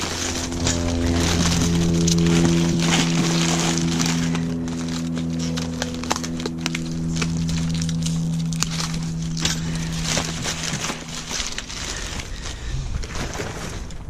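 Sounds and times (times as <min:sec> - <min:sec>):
background music with sustained chords: 0:00.0 - 0:12.4
paper packaging crinkling and tearing: 0:00.0 - 0:14.0.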